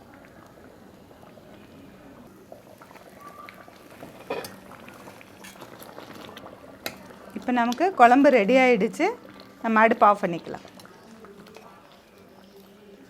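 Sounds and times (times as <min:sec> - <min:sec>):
gravy bubbling in a pot: 0:00.0 - 0:13.0.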